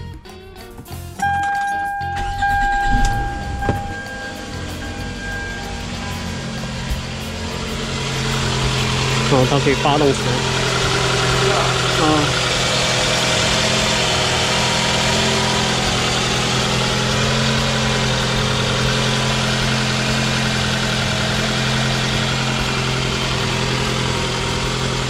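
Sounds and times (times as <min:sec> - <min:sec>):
car engine idling: 0:01.2 - 0:25.0.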